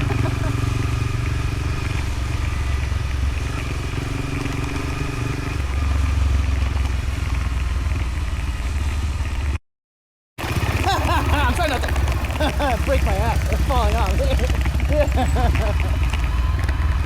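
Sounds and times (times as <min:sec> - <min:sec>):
motorcycle engine running: 0:00.0 - 0:09.6, 0:10.4 - 0:17.0.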